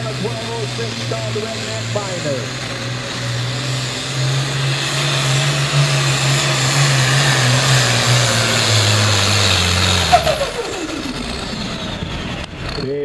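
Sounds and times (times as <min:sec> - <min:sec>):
tractor engine running flat out: 0:00.0 - 0:13.0
turbo whine: 0:00.0 - 0:13.0.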